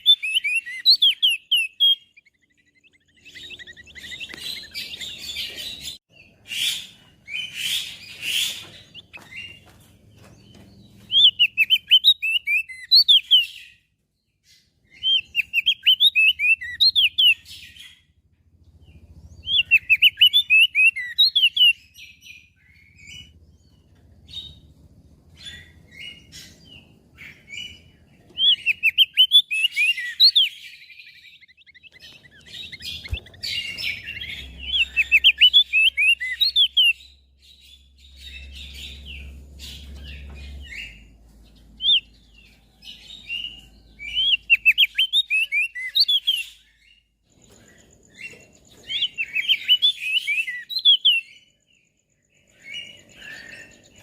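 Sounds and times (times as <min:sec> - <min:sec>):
bird chirping rapidly: 0:00.0 - 0:13.8, 0:14.5 - 0:54.0.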